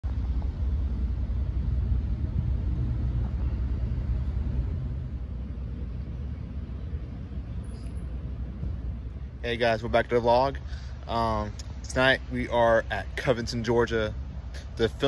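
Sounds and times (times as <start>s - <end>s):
low street ambience rumble: 0.0s - 15.0s.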